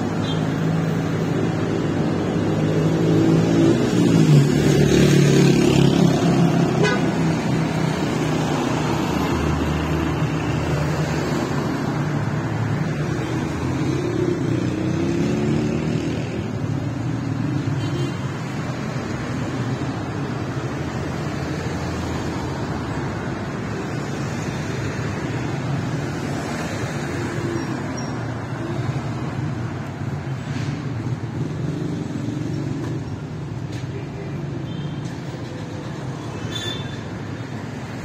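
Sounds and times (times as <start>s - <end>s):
tyres on road: 0.0s - 38.0s.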